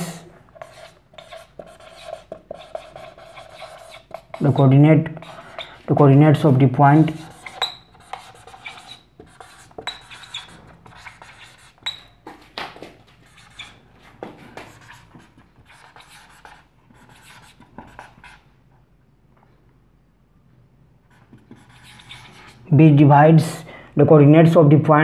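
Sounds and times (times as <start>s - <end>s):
marker squeaking on whiteboard: 0.0s - 18.4s, 21.1s - 22.7s.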